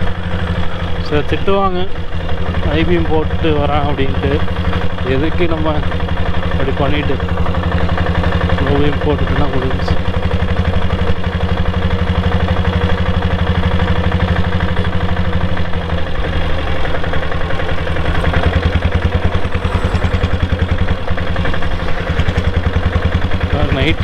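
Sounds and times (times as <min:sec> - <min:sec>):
motorcycle diesel engine running: 0:00.0 - 0:24.0.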